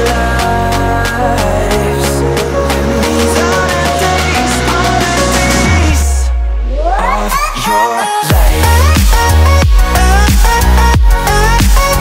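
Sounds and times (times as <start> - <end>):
instrumental dance-pop music: 0.0 - 12.0.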